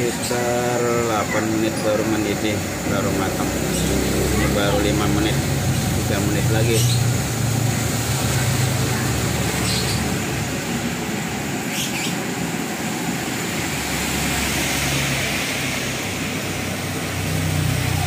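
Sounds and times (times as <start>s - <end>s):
stove burner running: 0.0s - 18.0s.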